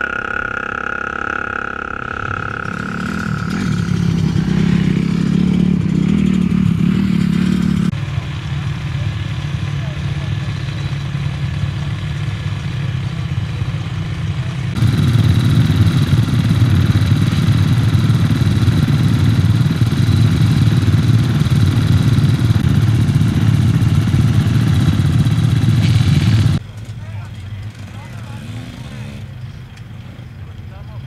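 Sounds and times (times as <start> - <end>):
motorcycle engines running: 0.0 - 31.0.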